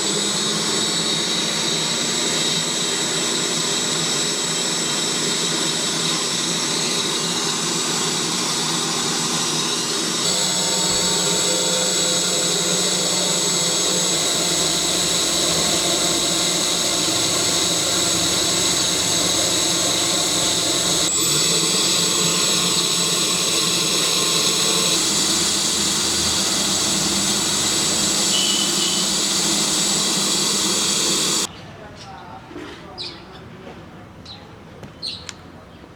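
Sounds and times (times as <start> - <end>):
electric fan whirring: 0.0 - 31.5.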